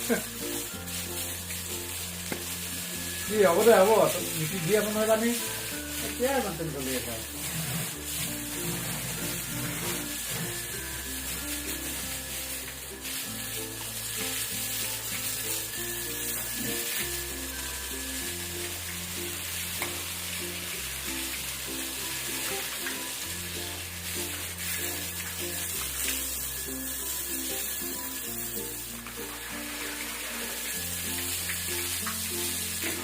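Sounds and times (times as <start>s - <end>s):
constant hiss: 0.0s - 33.0s
music with slow bass line: 0.0s - 33.0s.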